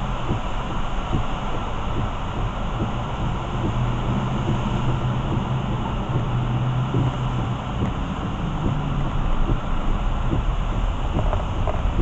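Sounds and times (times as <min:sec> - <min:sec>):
engine and tyres on wet road: 0:00.0 - 0:12.0
low steady hum: 0:00.0 - 0:12.0.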